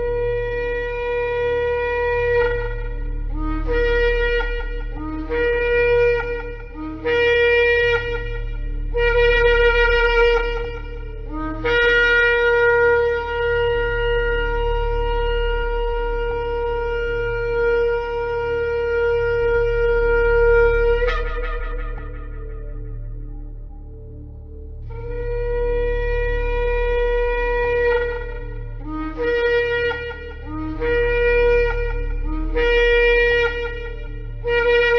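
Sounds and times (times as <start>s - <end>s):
shofar blasts: 0.0s - 24.2s, 24.8s - 34.9s
steady low hum: 0.0s - 34.9s.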